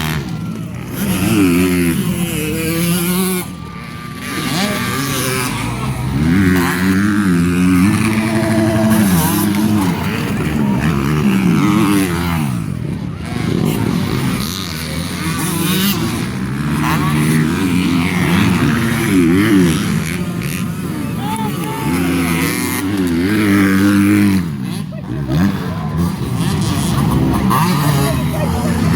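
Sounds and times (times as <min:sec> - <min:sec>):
dirt bike engines revving: 0:00.0 - 0:28.9.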